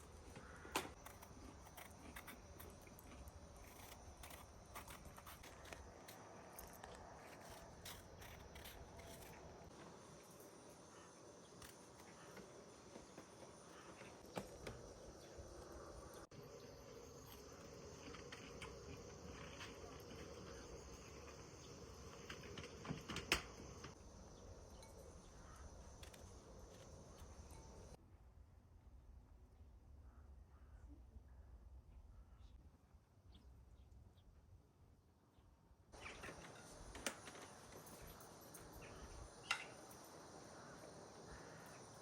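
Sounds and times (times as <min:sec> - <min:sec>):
insects buzzing: 0:00.0 - 0:28.0, 0:36.0 - 0:42.0.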